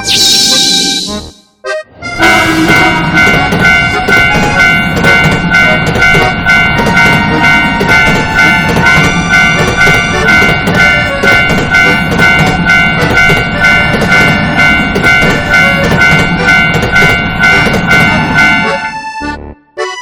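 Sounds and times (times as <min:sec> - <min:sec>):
railroad crossing alarm clanging: 0:02.1 - 0:19.0
passing train rumbling: 0:02.1 - 0:19.2.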